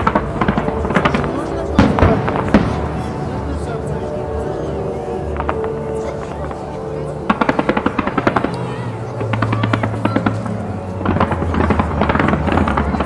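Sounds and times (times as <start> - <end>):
fireworks bangs and crackling: 0.0 - 3.9, 5.3 - 13.0.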